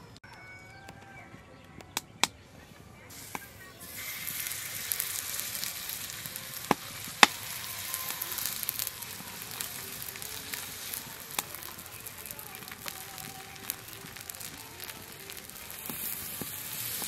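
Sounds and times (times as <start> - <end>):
batter sizzling in hot oil: 3.1 - 17.0.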